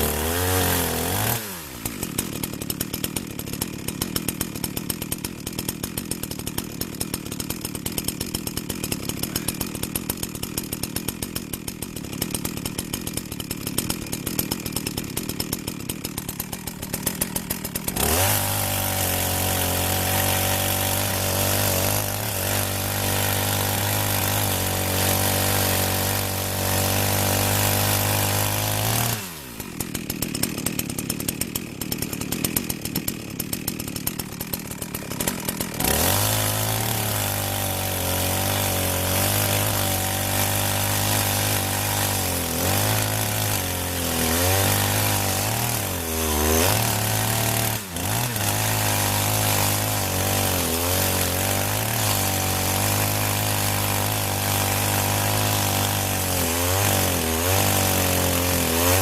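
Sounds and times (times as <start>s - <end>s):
chainsaw cutting logs: 0.0s - 59.0s
chainsaw rough idle: 0.0s - 59.0s.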